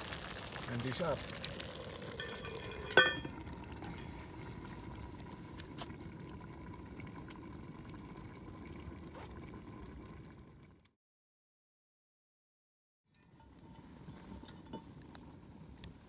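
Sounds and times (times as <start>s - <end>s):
fire crackles: 0.0s - 10.8s, 13.2s - 16.0s.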